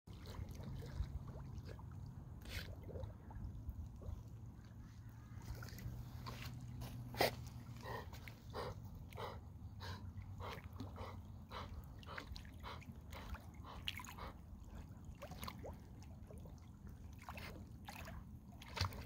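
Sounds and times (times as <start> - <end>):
low steady hum: 0.1 - 19.0.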